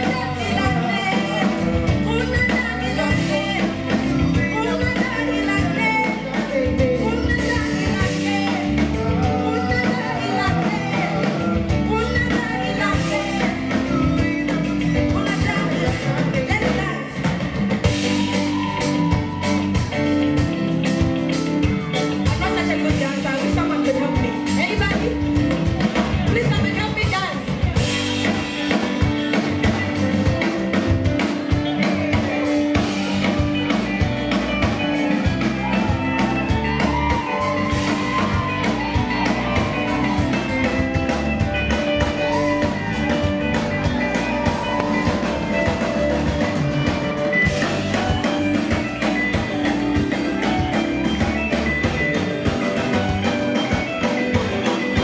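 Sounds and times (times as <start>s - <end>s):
live band playing soul music: 0.0s - 55.0s.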